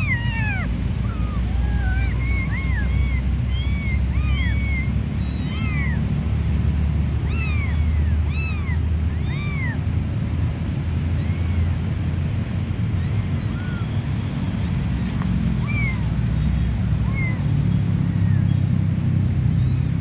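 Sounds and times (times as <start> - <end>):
kittens mewing: 0.0 - 18.6.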